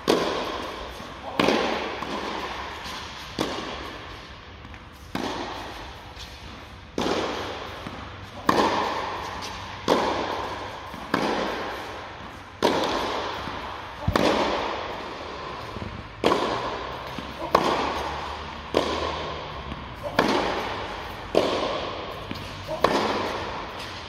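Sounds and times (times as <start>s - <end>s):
tennis ball bouncing: 0.0s - 24.0s
tennis ball struck by rackets: 0.0s - 24.0s.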